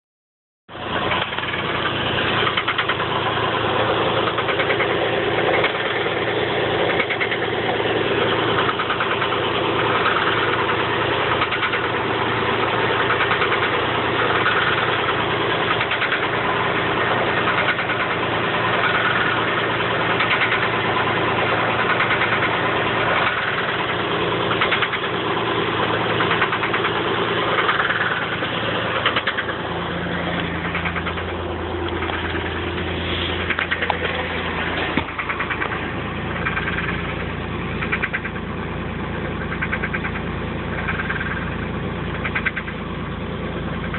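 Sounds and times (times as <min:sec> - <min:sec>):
car engine idling with knock: 0:00.7 - 0:43.9.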